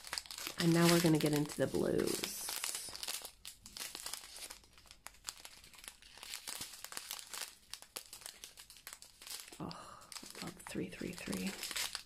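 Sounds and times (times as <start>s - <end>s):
plastic bags crinkling: 0.0s - 12.0s
small clicks and crackles: 0.0s - 12.0s.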